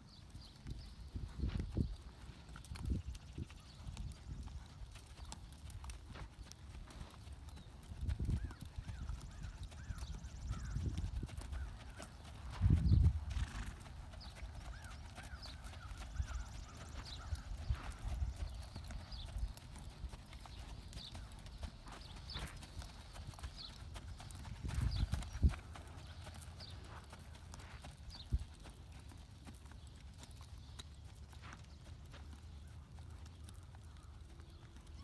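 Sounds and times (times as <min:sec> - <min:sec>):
hoofbeats on soft sand: 0:00.4 - 0:35.0.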